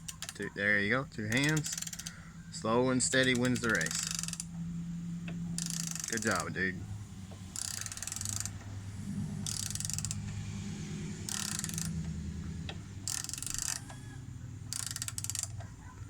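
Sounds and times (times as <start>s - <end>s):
hand ratchet clicking: 0.0s - 0.5s, 1.2s - 10.4s, 11.2s - 15.7s.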